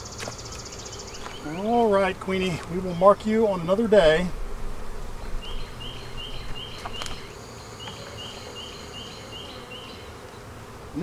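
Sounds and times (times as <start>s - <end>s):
bees humming: 0.0s - 11.0s.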